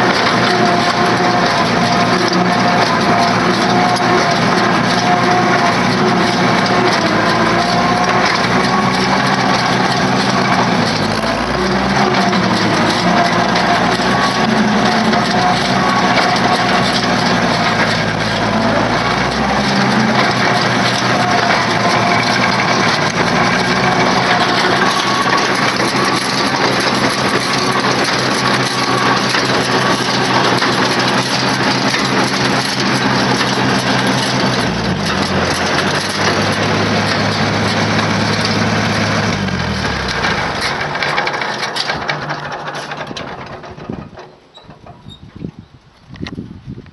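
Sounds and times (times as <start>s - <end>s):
baler mechanism crunching and clicking: 0.0s - 45.0s
tractor engine under load: 0.0s - 46.9s.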